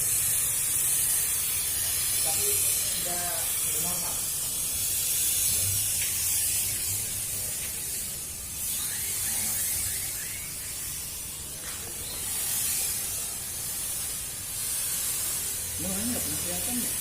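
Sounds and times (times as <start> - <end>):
fogging machine hissing: 0.0 - 17.0.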